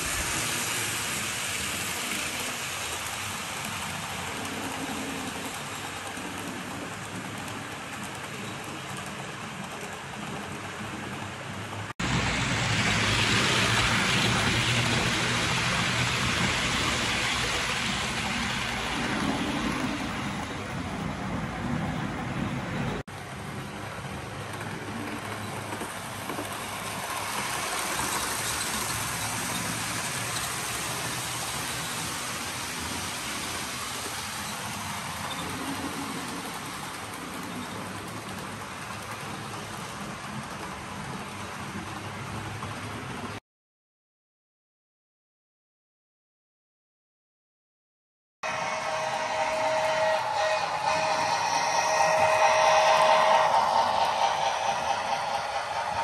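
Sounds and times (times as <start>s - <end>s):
model train wheels rumbling on track: 0.0s - 43.4s, 48.5s - 56.0s.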